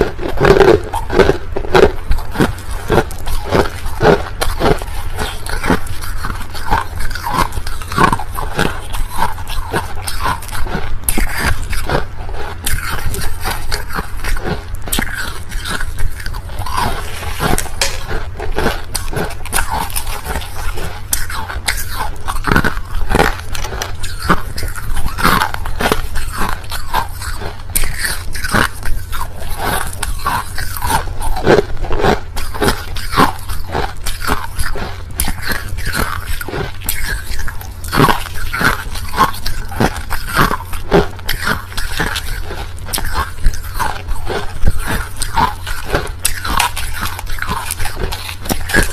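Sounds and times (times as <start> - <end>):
person chewing crushed ice: 0.0 - 48.9.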